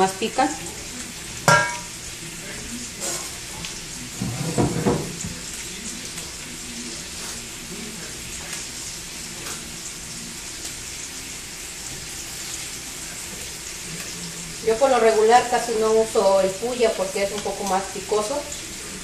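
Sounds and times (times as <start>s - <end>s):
meat sizzling in a pot: 0.0s - 19.0s.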